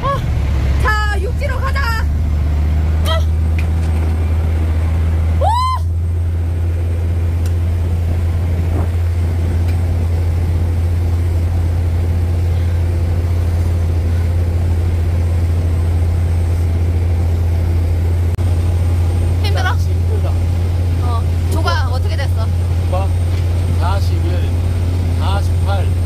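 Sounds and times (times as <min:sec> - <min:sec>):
boat engine drone: 0:00.0 - 0:26.0.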